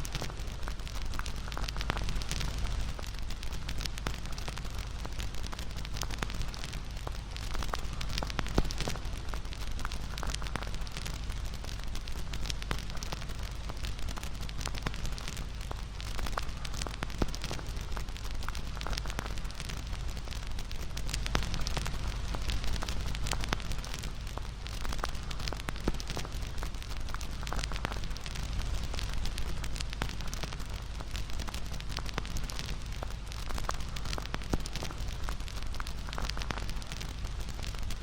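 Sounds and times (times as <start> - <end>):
burning wood crackling and popping: 0.0 - 38.0
flames rumbling: 0.0 - 38.0.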